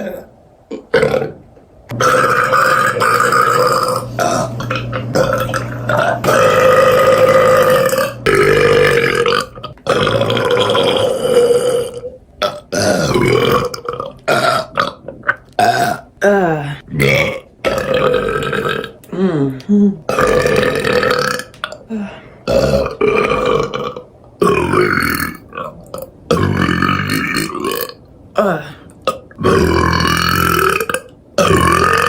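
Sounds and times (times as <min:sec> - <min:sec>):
woman burping: 0:00.0 - 0:32.0.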